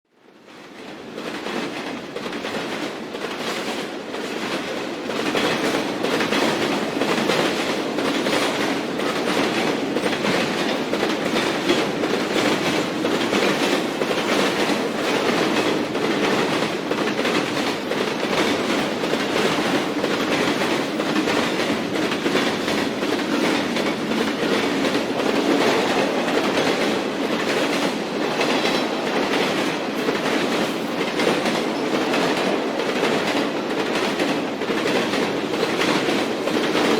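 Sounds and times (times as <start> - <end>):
train wheels clattering on rails: 0.4 - 36.9.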